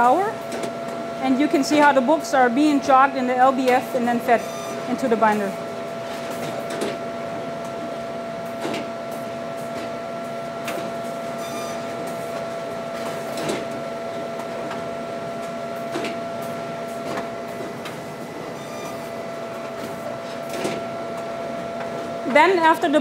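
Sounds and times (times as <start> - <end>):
machine hum with whine: 0.0 - 23.0.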